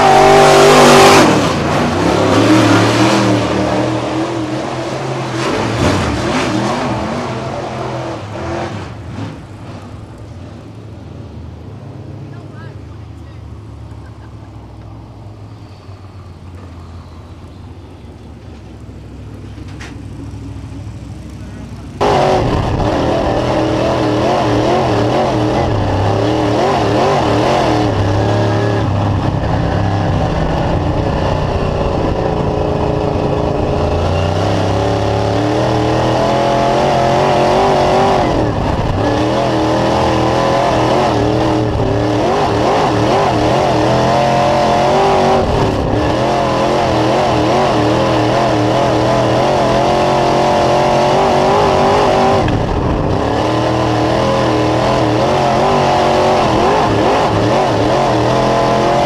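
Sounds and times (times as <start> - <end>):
race car engine rising and falling: 0.0 - 11.0, 13.7 - 59.0.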